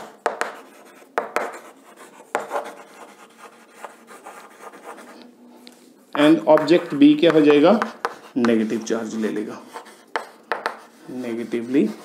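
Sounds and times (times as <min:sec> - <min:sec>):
chalk tapping on a board: 0:00.0 - 0:05.0, 0:06.1 - 0:08.9, 0:09.7 - 0:12.0
chalk scratching on a blackboard: 0:00.0 - 0:05.2, 0:06.2 - 0:12.0.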